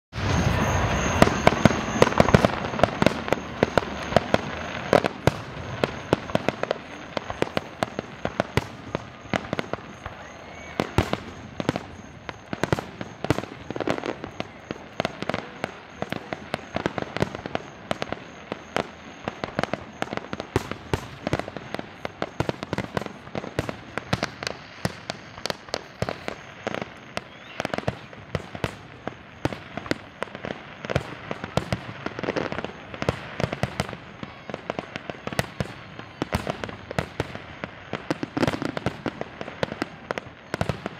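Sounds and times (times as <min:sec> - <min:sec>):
fireworks bursting: 0:00.1 - 0:40.9.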